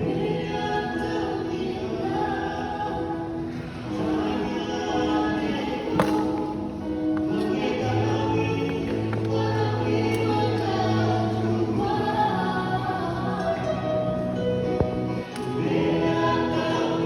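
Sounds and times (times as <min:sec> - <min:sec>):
choir singing held chords: 0:00.0 - 0:17.0
low bass voices: 0:00.0 - 0:17.0.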